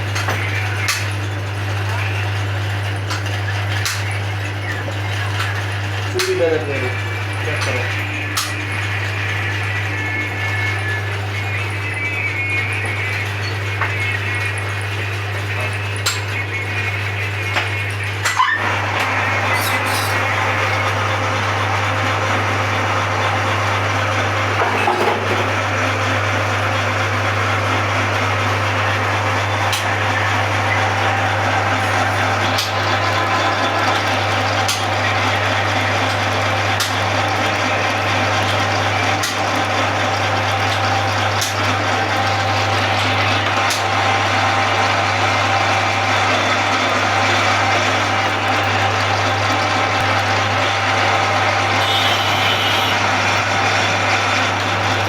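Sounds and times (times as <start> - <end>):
metal lathe humming and whirring: 0.0 - 55.0.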